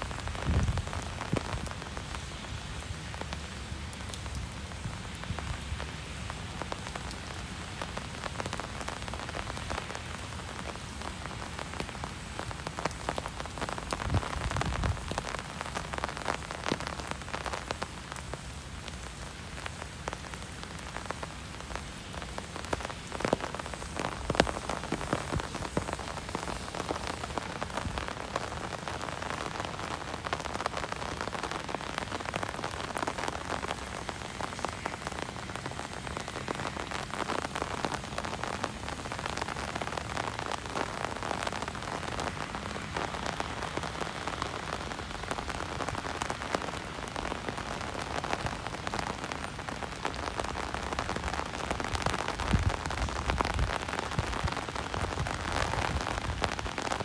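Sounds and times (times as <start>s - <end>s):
rain tapping on an umbrella: 0.0s - 57.0s.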